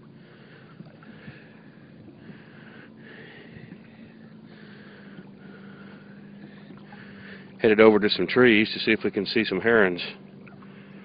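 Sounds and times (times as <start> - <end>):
water swishing against kayak: 0.0 - 11.0.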